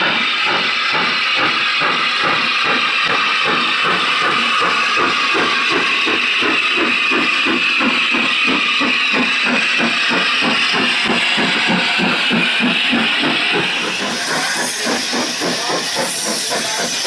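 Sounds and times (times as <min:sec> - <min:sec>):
steam hissing: 0:00.0 - 0:17.0
steam locomotive exhaust beats: 0:00.0 - 0:17.0.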